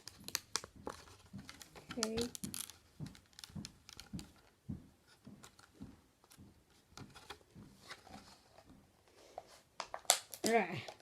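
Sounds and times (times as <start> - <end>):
plastic parts and packaging handled: 0.0 - 11.0.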